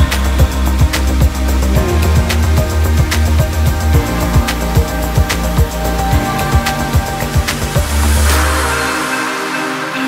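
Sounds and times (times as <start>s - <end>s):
deep bass note: 0.0s - 8.9s
held electronic chords: 0.0s - 10.0s.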